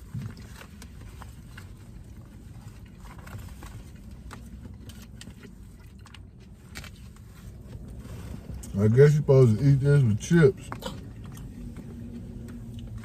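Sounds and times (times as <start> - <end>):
light clicks and rustles: 0.0 - 8.8, 10.5 - 13.0
car cabin rumble: 0.0 - 13.0.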